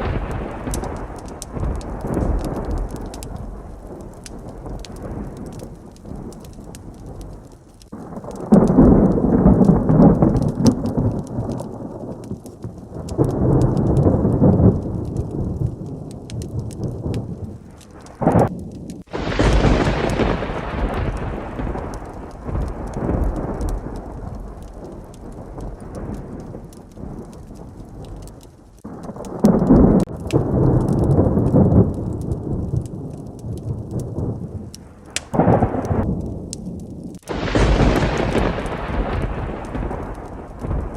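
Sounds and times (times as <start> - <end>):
heavy rain: 0.0 - 40.9
sharp thunder crack: 0.0 - 40.9
thunder rumbling: 0.0 - 40.9.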